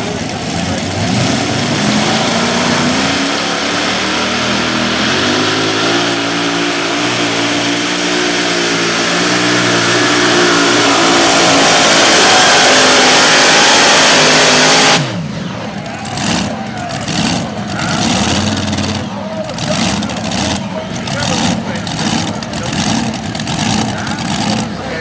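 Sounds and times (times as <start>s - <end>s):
tractor engine at full power: 0.0s - 25.0s.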